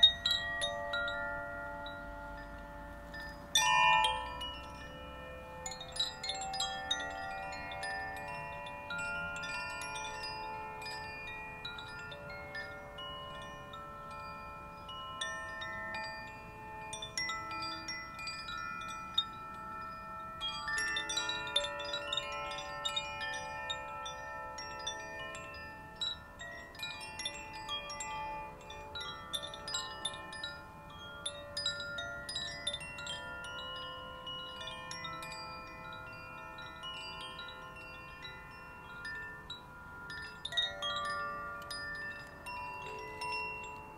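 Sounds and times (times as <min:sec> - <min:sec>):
wind chimes ringing: 0:00.0 - 0:43.9.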